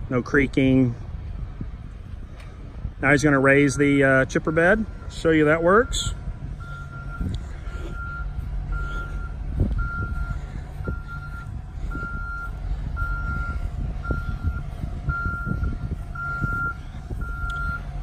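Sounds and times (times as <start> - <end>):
truck engine running: 0.0 - 18.0
truck warning beeper: 3.1 - 18.0.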